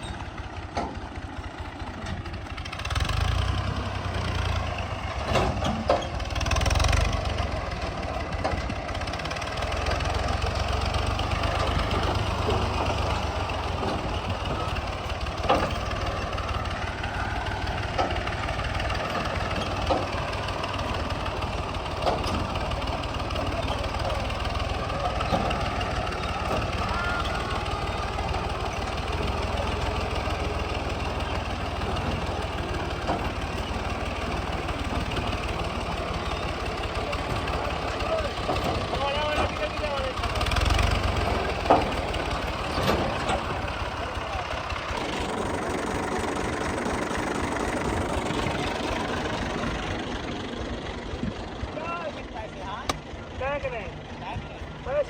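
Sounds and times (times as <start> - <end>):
thresher rattling hum: 0.0 - 55.0
tractor diesel engine rumbling: 0.0 - 55.0.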